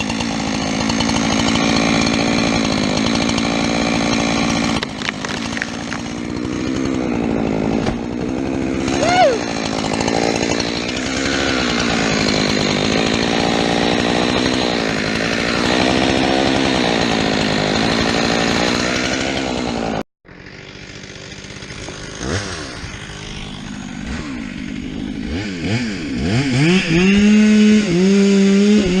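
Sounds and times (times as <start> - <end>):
chainsaw revving: 0.0 - 29.0
chainsaw running: 0.0 - 29.0.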